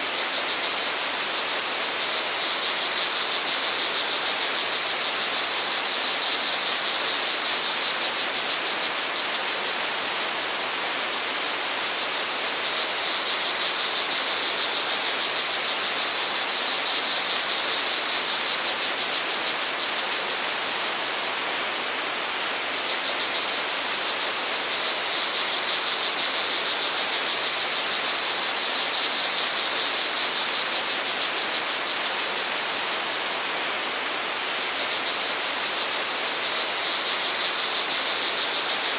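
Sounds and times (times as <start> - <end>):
crickets trilling: 0.1 - 21.2, 22.8 - 33.3, 34.5 - 38.9.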